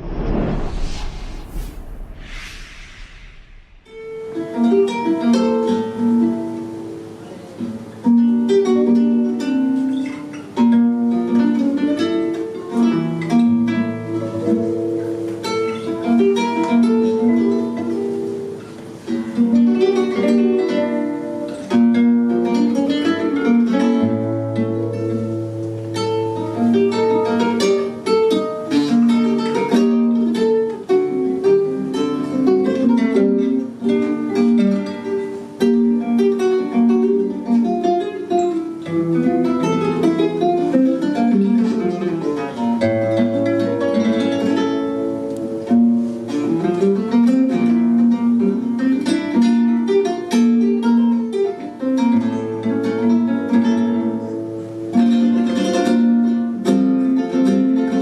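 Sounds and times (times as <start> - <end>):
flamenco guitar playing: 4.0 - 58.0.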